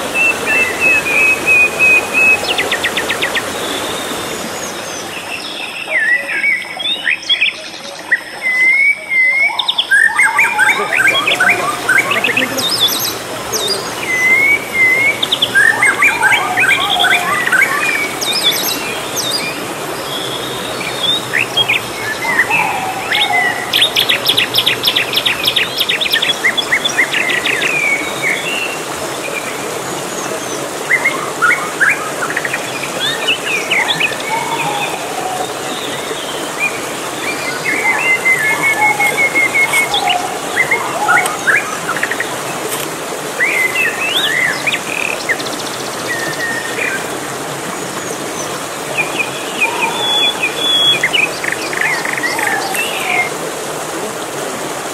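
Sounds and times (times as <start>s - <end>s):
birds chirping and calling: 0.0s - 28.9s, 30.7s - 42.8s, 48.0s - 53.4s
stream rushing over rocks: 0.0s - 54.9s.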